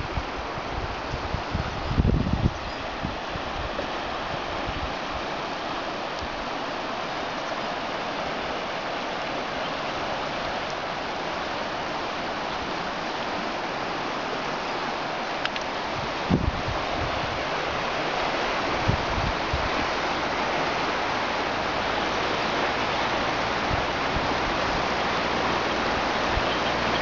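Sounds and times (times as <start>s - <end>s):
river rushing in flood: 0.0s - 27.0s.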